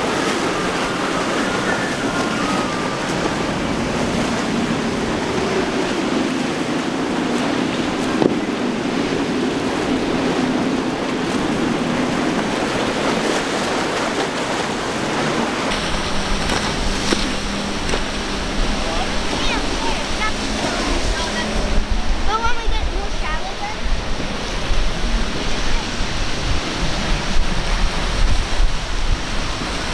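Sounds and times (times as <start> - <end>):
motorboat engine droning: 0.0 - 29.9
waves breaking: 0.0 - 29.9
wind on microphone: 0.0 - 29.9.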